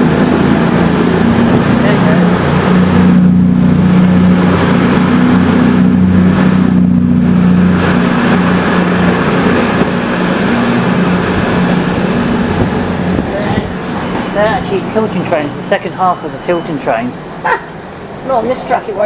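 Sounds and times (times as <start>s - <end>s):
diesel train engine drone: 0.0s - 19.0s
thin high whine: 0.0s - 19.0s.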